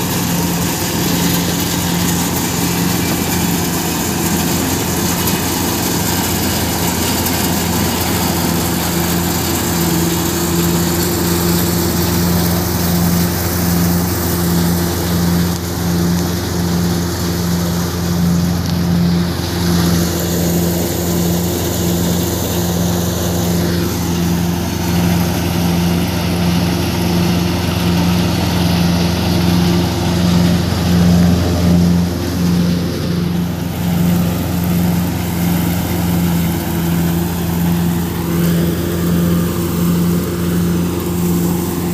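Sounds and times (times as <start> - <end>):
thresher and engine humming: 0.0 - 41.9.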